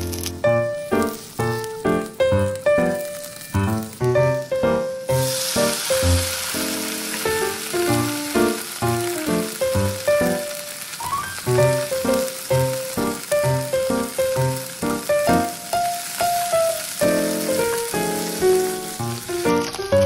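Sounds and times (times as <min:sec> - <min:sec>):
food sizzling in a frying pan: 0:00.0 - 0:20.0
melodic background music: 0:00.0 - 0:20.0.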